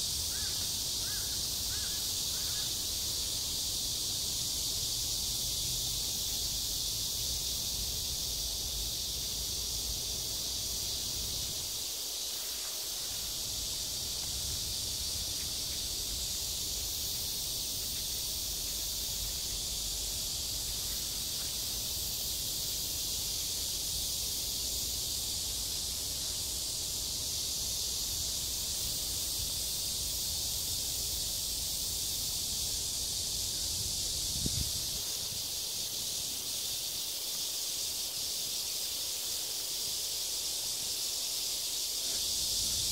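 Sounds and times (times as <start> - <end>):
insect chorus: 0.0 - 42.9.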